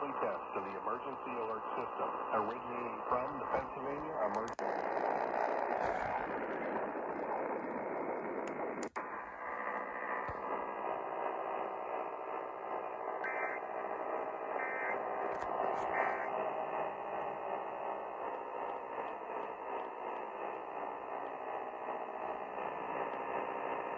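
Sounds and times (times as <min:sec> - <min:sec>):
radio static hiss: 0:00.0 - 0:23.9
warbling data tones: 0:00.0 - 0:23.9.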